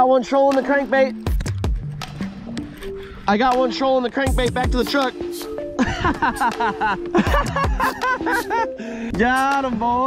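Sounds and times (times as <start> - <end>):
sustained music tones: 0.0 - 10.0.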